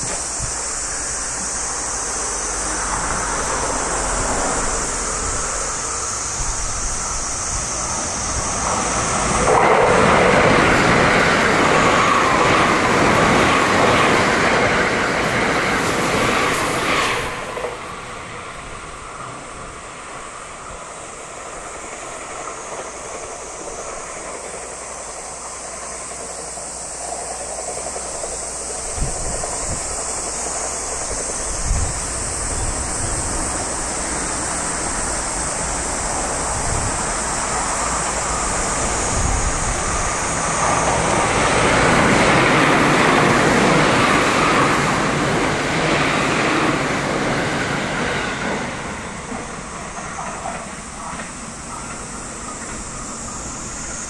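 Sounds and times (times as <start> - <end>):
train passing at speed: 0.0 - 54.0.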